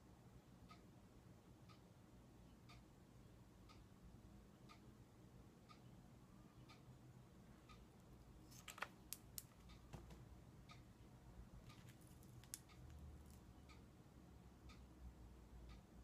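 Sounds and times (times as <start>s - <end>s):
clock ticking faintly: 0.6s - 8.3s, 9.1s - 16.0s.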